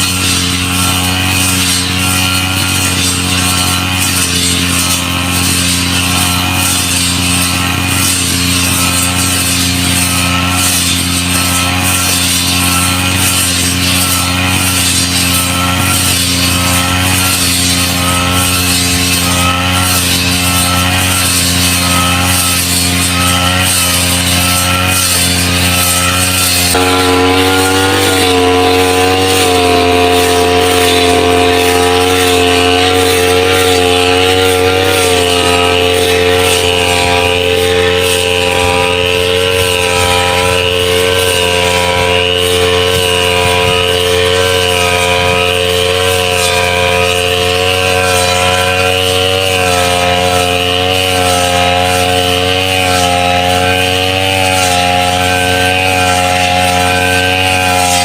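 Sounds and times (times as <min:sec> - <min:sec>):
brush cutter engine running: 0:00.0 - 0:58.0.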